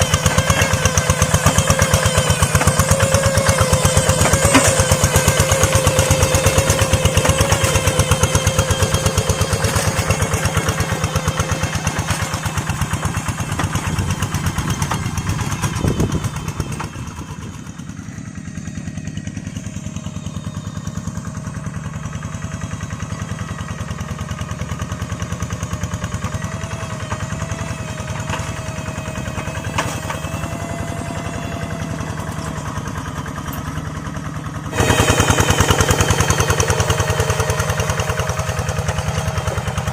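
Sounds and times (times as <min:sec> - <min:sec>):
tractor engine exhaust popping: 0:00.0 - 0:39.9.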